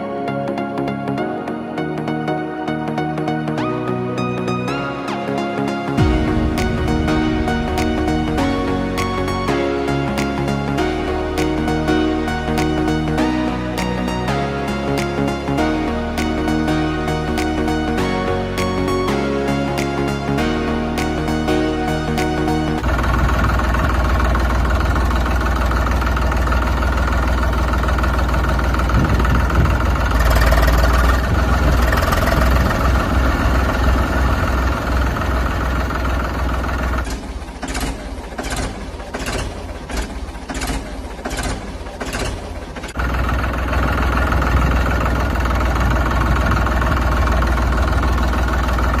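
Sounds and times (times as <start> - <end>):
tractor engine running: 5.0 - 49.0.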